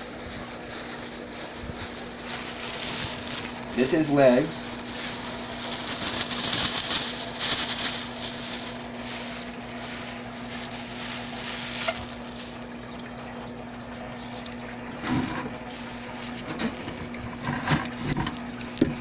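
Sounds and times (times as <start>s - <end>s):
crackly rustling handling noise: 0.0s - 19.0s
steady low hum: 0.0s - 19.0s.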